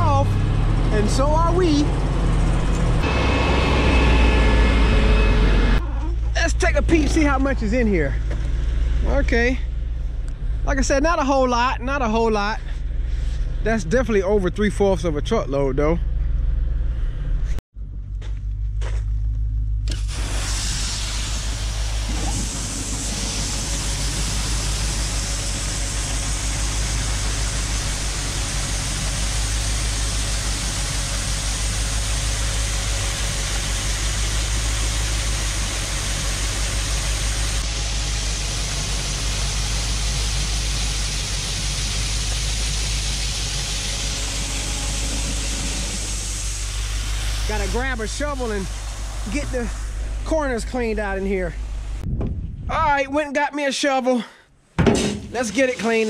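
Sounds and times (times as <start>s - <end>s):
road and wind noise: 0.0s - 53.2s
truck engine rumble: 0.0s - 53.4s.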